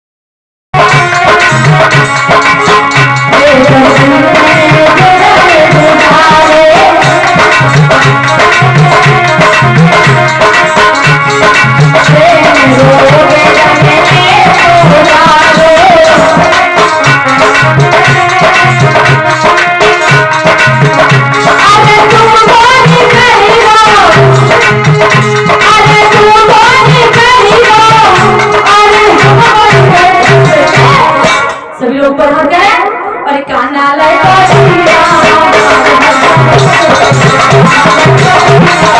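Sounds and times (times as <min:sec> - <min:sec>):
hand drum rhythm: 0:00.8 - 0:31.6, 0:34.2 - 0:38.9.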